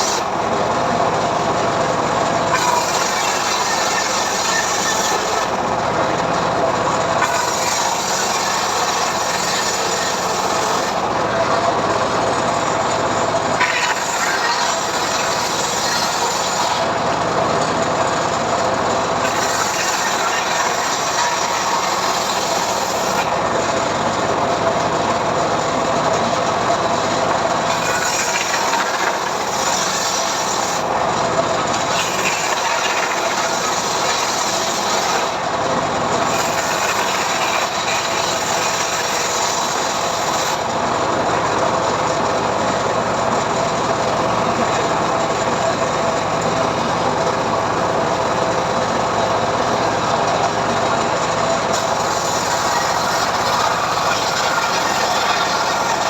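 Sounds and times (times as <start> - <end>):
sawmill ripping a log: 0.0 - 56.0.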